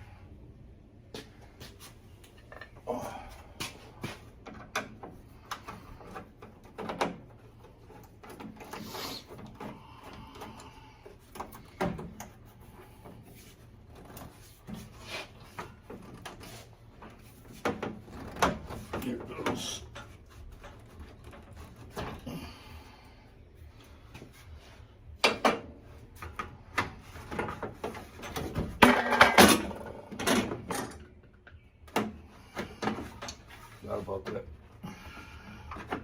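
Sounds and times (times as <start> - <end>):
tools clunking and scraping: 1.1 - 36.0.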